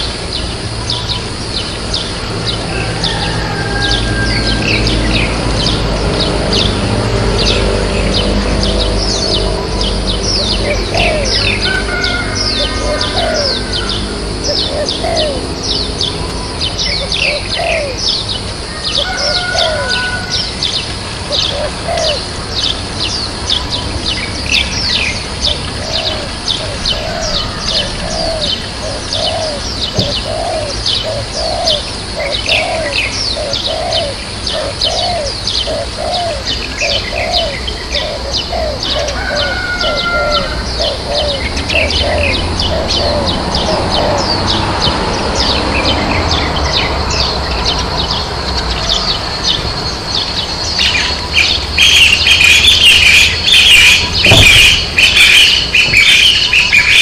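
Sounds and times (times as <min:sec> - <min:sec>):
lower rounded bird calls: 0:00.0 - 0:57.0.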